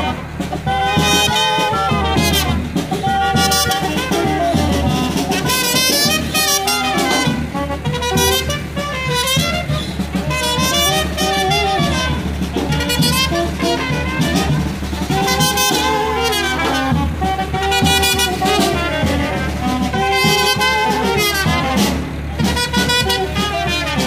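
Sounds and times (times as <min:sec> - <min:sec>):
brass band music: 0:00.0 - 0:24.0
horns playing a melody: 0:00.0 - 0:24.0.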